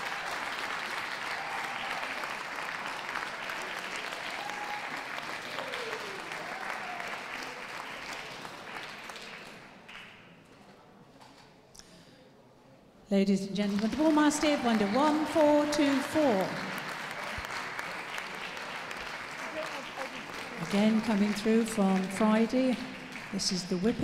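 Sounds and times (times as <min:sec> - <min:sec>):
audience applauding: 0:00.0 - 0:10.2, 0:13.6 - 0:24.0.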